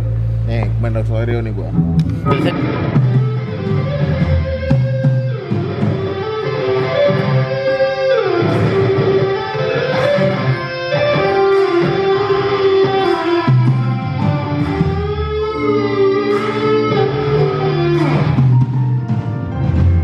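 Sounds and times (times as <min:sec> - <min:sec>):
electric guitar sustained notes: 0:00.0 - 0:20.0
steady bass line: 0:00.0 - 0:20.0.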